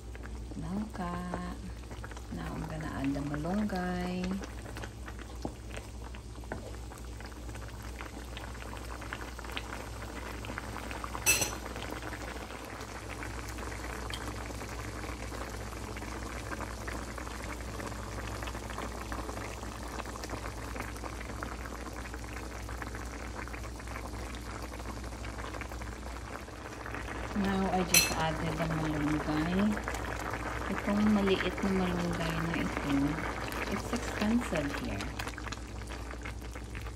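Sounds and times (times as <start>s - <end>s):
stew bubbling in a pan: 0.0s - 36.9s.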